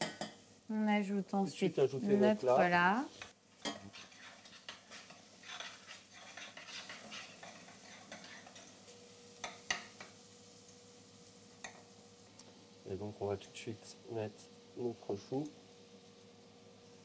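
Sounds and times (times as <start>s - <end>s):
meat sizzling in a saucepan: 0.0s - 17.0s.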